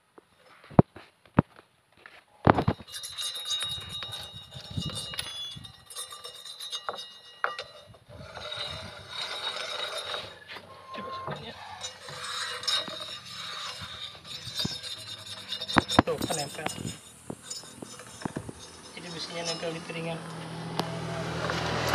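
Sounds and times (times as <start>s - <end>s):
scraping on metal disc: 2.5s - 21.9s.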